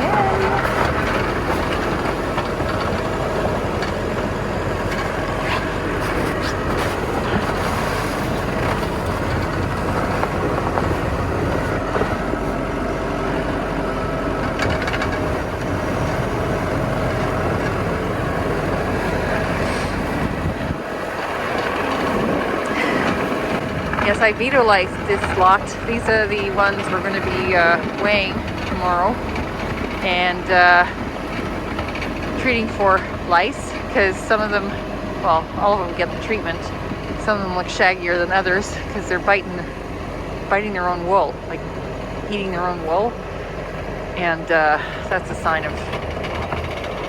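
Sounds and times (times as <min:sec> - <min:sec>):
tractor engine rumbling: 0:00.0 - 0:47.0.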